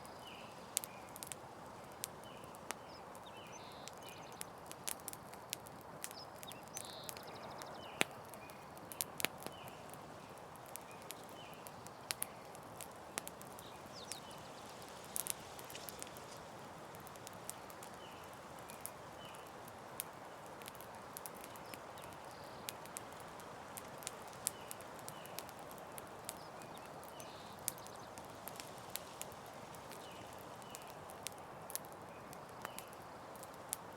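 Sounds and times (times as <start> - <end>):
campfire popping and snapping: 0.0 - 33.9
soft hiss: 0.0 - 33.9.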